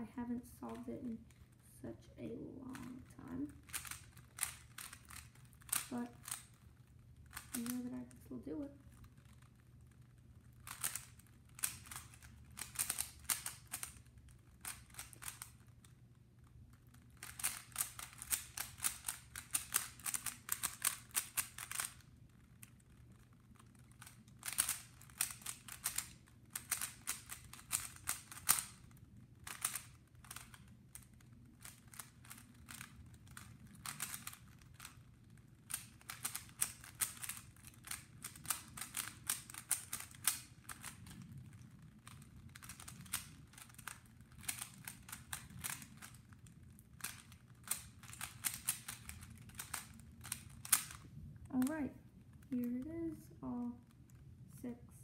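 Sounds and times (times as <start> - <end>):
puzzle cube plastic clicking: 2.7 - 53.1.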